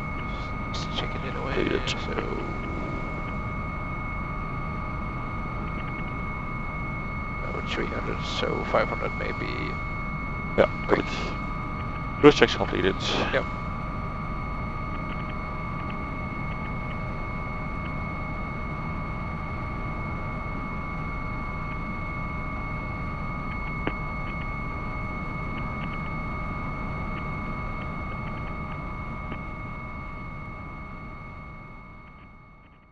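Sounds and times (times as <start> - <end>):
helicopter cockpit rumble and whine: 0.0 - 32.9.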